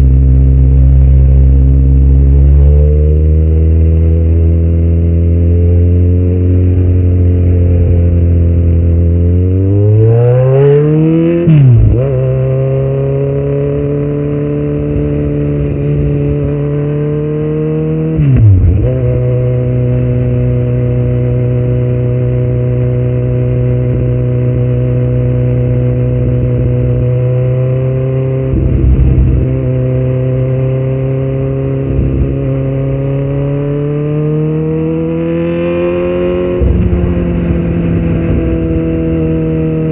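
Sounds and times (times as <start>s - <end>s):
motorcycle engine revving hard: 0.8s - 39.9s.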